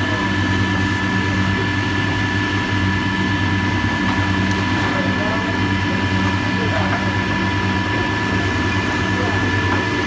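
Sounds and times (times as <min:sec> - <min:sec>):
diesel machinery engine hum: 0:00.0 - 0:10.0
steady high whine: 0:00.0 - 0:10.0.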